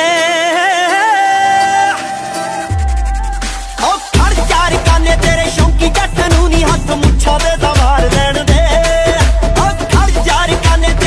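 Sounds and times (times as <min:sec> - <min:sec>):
pop song with heavy beat: 0:00.0 - 0:11.0.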